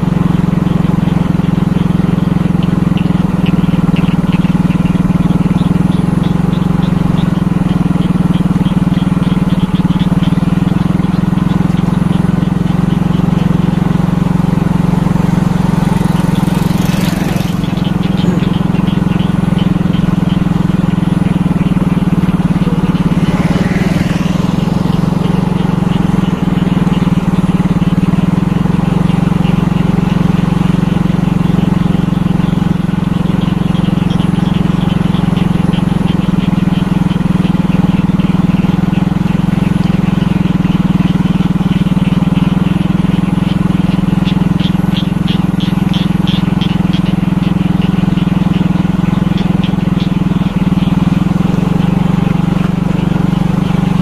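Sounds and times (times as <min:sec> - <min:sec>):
motorcycle engine running: 0:00.0 - 0:54.0
motorcycle passing: 0:00.0 - 0:54.0
tyre noise on asphalt: 0:00.0 - 0:54.0.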